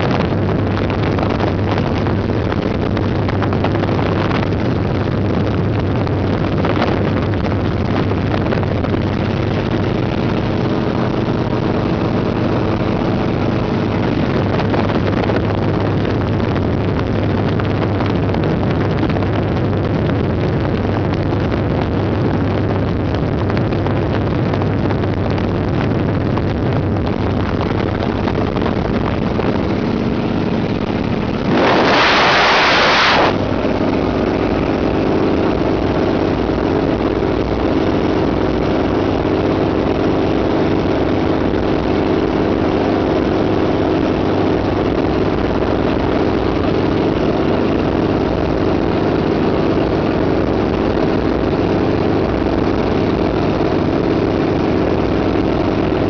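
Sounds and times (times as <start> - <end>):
wind blast on microphone: 0.0 - 56.0.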